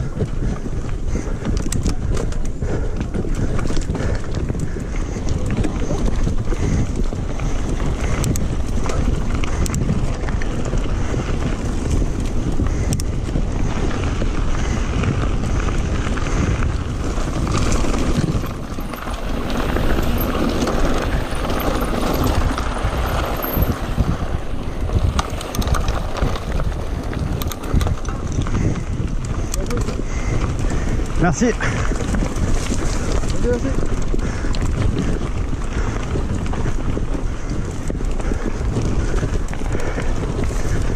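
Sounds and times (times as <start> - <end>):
bike rattling and knocking: 0.0 - 40.9
tyre noise on dirt: 0.0 - 40.9
wind rushing on microphone: 0.0 - 40.9.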